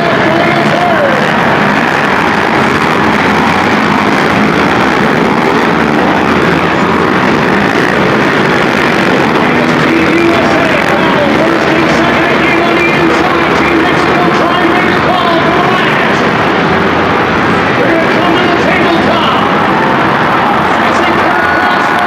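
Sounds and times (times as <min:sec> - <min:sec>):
racing quad engines: 0:00.0 - 0:22.0.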